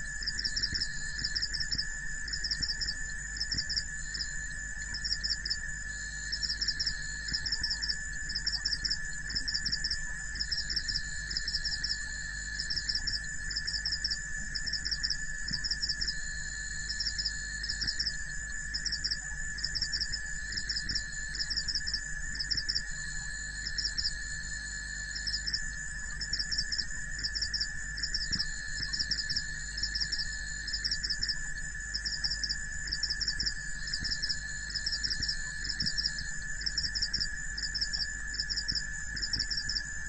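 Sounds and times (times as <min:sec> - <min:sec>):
cricket chirps: 0:00.0 - 0:40.0
high-pitched insect drone: 0:00.0 - 0:40.0.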